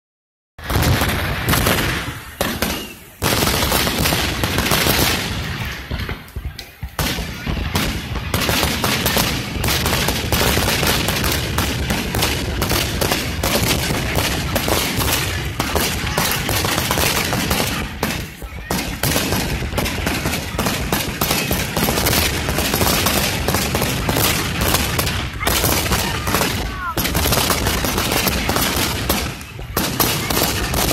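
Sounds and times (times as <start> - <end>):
fireworks bangs and crackles: 0.6 - 30.9.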